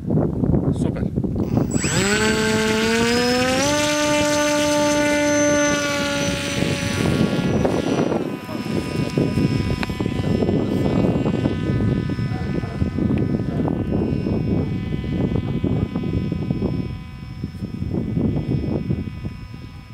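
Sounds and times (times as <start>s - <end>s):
wind rumble on microphone: 0.0s - 19.9s
model plane motor whining: 1.4s - 19.9s.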